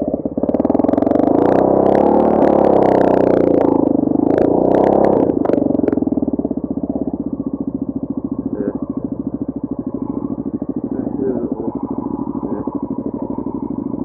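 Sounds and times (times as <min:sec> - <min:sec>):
vehicle engine pulsing: 0:00.0 - 0:14.0.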